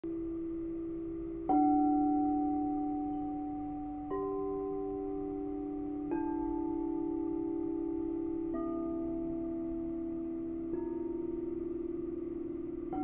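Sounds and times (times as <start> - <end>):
crystal singing bowls ringing: 0.1 - 13.0.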